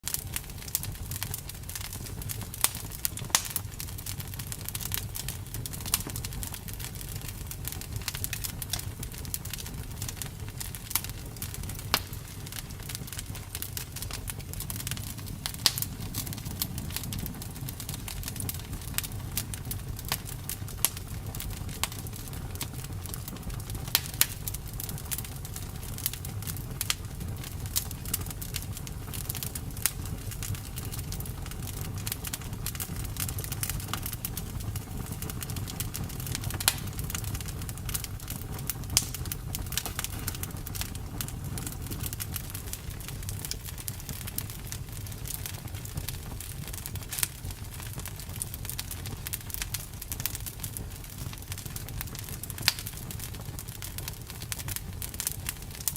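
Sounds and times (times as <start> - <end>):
burning wood crackling and popping: 0.0 - 55.9
campfire flames rumbling: 0.0 - 55.9.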